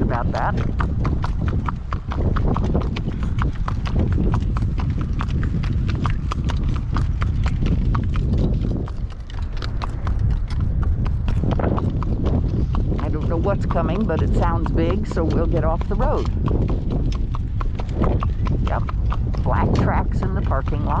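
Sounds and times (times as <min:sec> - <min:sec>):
horse hooves on paved road: 0:00.0 - 0:21.0
low rumble: 0:00.0 - 0:21.0.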